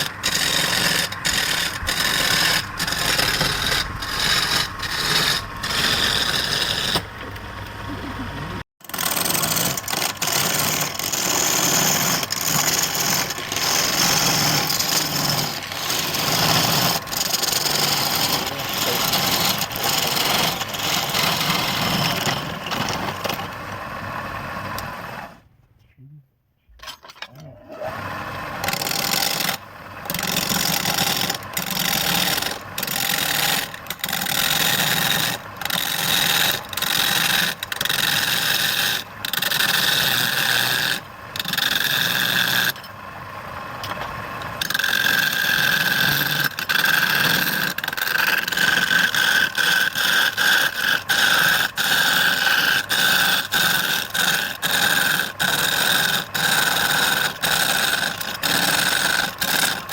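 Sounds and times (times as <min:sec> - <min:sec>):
lathe tool cutting wood: 0:00.0 - 0:25.4, 0:27.7 - 0:59.9.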